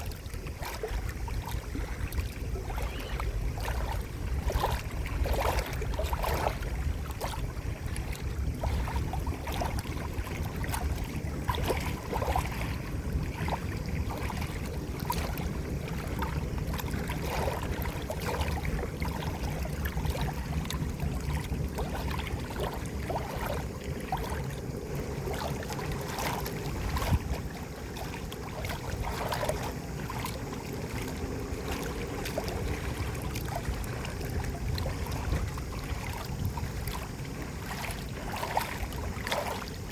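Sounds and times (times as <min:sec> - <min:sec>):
low water rumble: 0:00.0 - 0:39.9
water splashing and gurgling: 0:00.0 - 0:39.9.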